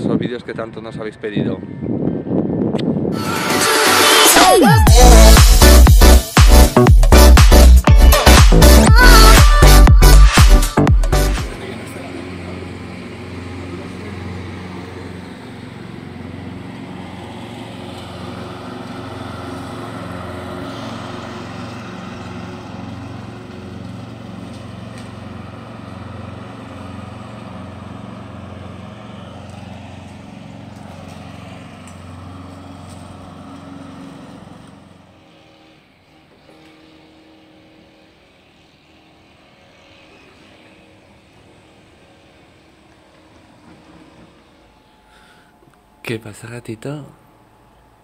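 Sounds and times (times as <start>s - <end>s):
motor humming: 3.0s - 46.0s.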